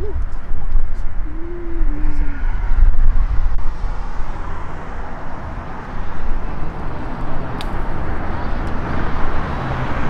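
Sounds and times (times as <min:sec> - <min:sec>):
steady outdoor hiss: 0:00.0 - 0:10.0
wind buffeting microphone: 0:00.0 - 0:10.0.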